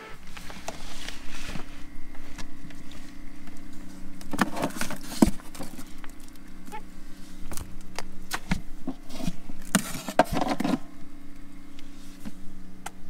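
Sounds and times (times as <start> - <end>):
steady low hum: 0.0 - 13.0
rustle: 0.2 - 11.0, 11.7 - 12.5.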